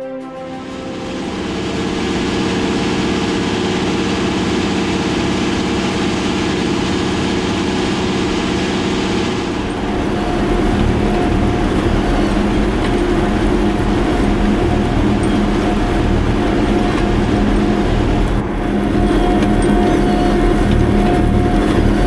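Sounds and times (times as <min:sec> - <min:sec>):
large diesel engine running: 0:00.6 - 0:22.0.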